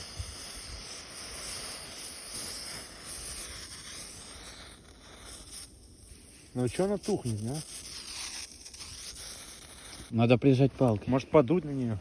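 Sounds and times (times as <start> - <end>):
small campfire hissing: 0.0 - 12.0.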